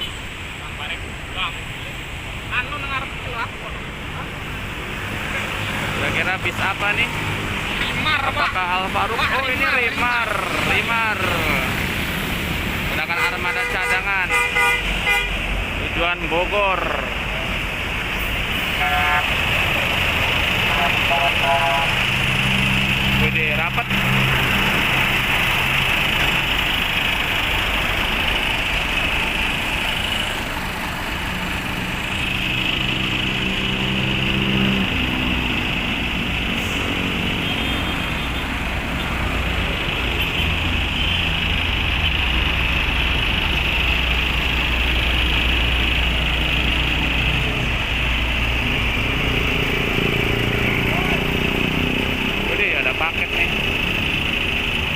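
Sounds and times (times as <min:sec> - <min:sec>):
bus engine running: 0:00.0 - 0:54.9.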